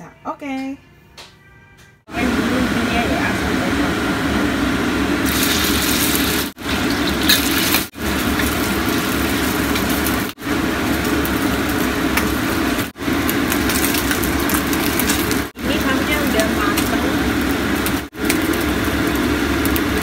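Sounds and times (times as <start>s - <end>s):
steady mechanical hum: 2.0s - 20.0s
ham sizzling in a wok: 2.4s - 20.0s.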